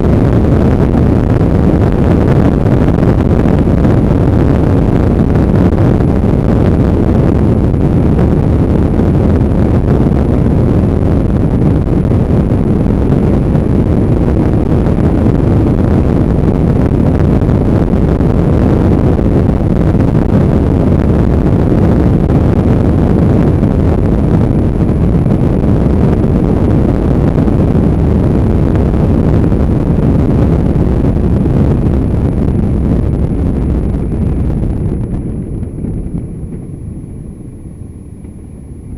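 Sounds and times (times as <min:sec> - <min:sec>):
road noise: 0:00.0 - 0:38.9
wind buffeting microphone: 0:00.0 - 0:38.9.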